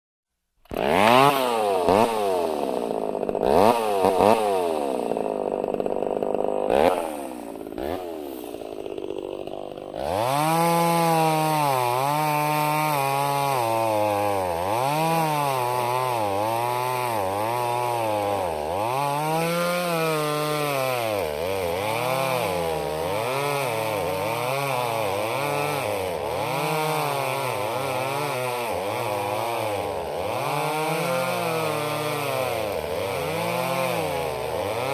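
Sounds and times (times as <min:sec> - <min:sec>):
two-stroke chainsaw revving: 0:00.6 - 0:34.9.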